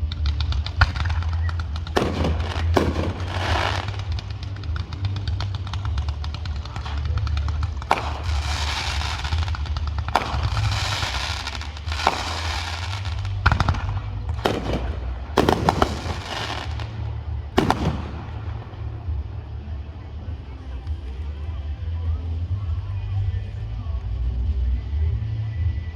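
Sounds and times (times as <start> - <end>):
fireworks bangs: 0.0 - 21.6
fireworks crackling: 0.0 - 25.8
steady low rumble: 0.0 - 25.9.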